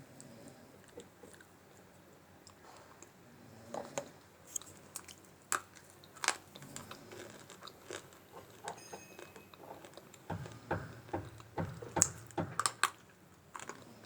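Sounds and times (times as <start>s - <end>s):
crunchy clay being chewed: 0.2s - 11.2s, 12.0s - 14.0s.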